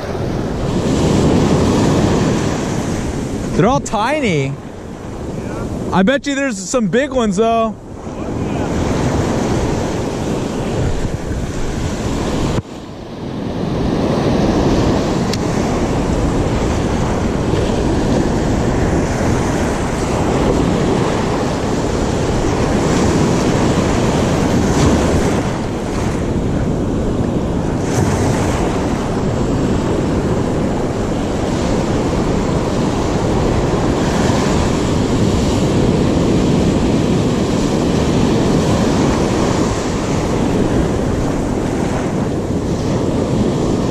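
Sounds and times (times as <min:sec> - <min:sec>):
ocean surf breaking: 0:00.0 - 0:43.9
wind buffeting microphone: 0:00.0 - 0:43.9.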